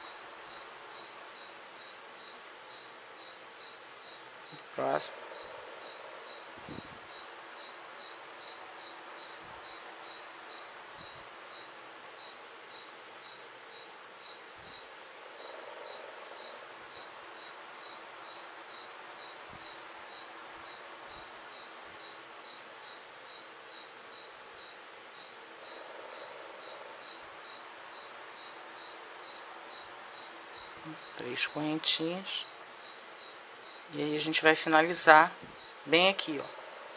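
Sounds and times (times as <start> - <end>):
high-pitched insect-like trill: 0.0 - 36.9.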